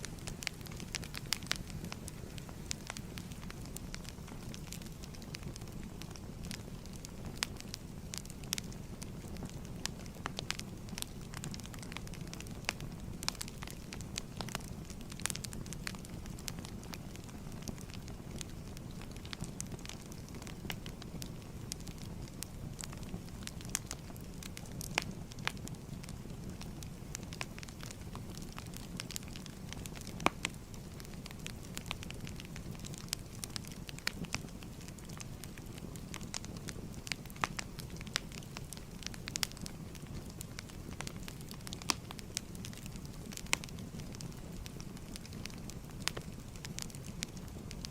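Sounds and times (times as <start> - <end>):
fire low rumble: 0.0 - 47.9
firewood crackling and popping: 0.0 - 47.9.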